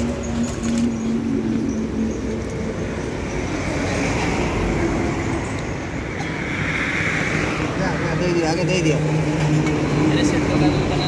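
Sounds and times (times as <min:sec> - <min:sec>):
road traffic noise: 0:00.0 - 0:11.0
vehicle engine humming: 0:00.0 - 0:11.0.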